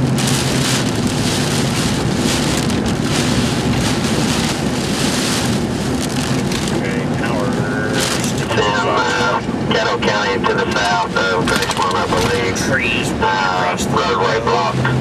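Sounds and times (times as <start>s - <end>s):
heavy rain: 0.0s - 15.0s
low steady hum: 0.0s - 15.0s
strong gusting wind: 0.0s - 15.0s.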